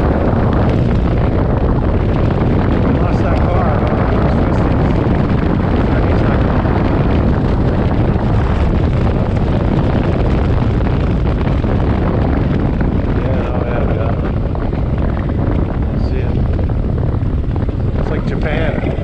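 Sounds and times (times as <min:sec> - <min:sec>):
motorcycle engine rumbling: 0:00.0 - 0:19.0
wind rush on microphone: 0:00.0 - 0:19.0.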